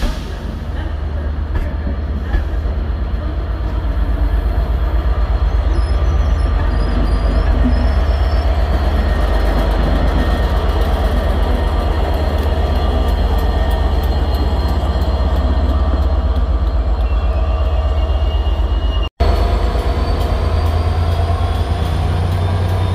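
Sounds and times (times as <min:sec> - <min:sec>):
diesel locomotive engine throbbing: 0:00.0 - 0:22.9.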